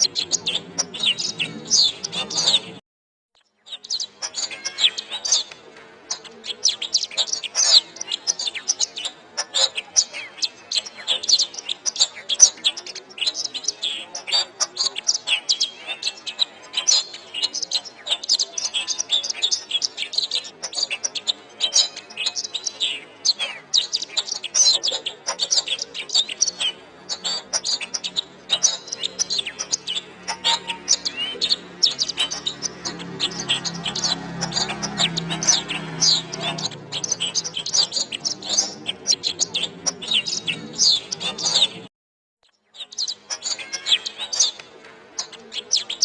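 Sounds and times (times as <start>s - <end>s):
canary singing: 0.0s - 2.8s, 3.4s - 41.9s, 42.5s - 46.0s.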